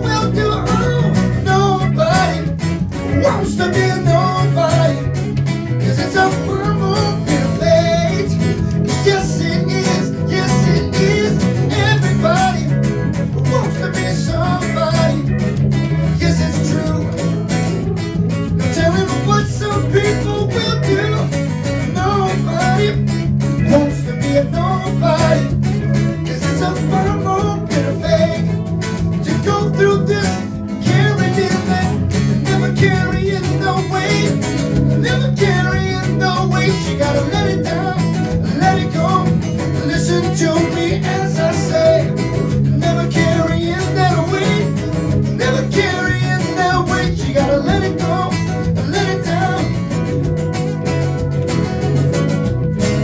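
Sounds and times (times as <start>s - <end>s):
man singing into microphone: 0.0s - 5.2s, 5.8s - 17.9s, 18.6s - 49.9s
acoustic guitar strumming: 0.0s - 53.0s
keyboard playing: 0.0s - 53.0s.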